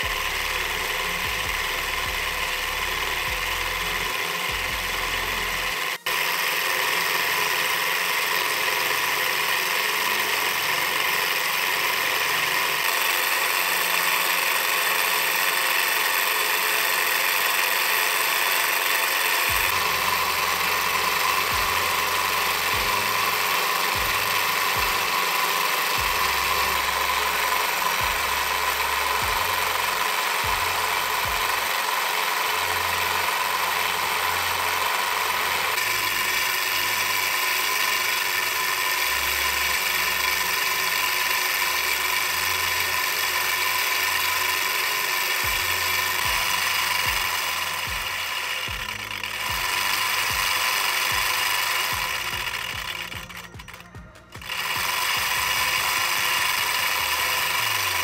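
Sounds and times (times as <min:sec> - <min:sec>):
model stirling engine running: 0:00.0 - 0:58.0.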